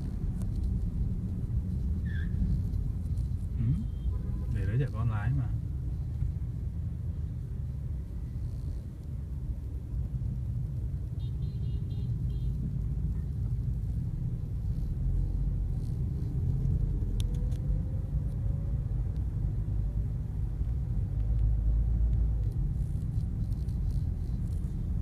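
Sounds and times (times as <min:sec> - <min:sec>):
car cabin engine and road rumble: 0:00.0 - 0:25.0.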